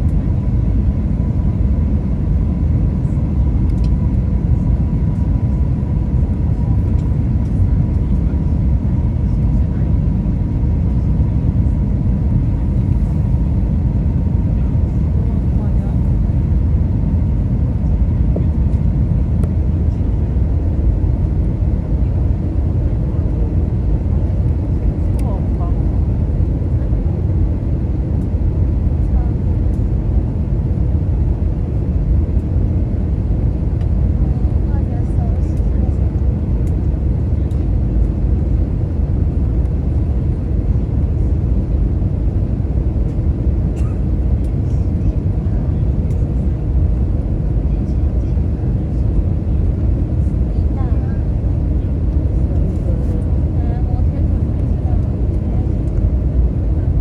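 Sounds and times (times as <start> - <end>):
airliner cabin engine roar: 0.0 - 57.0.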